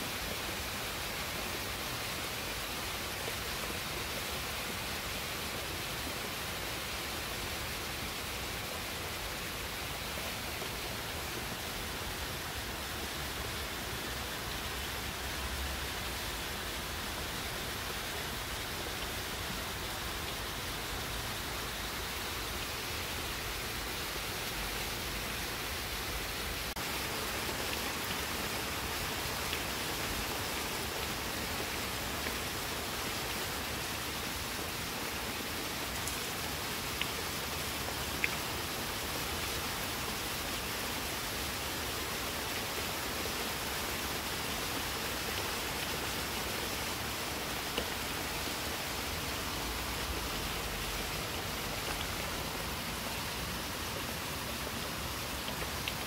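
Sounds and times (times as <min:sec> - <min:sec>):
rain falling on leafy trees: 0:00.0 - 0:56.0.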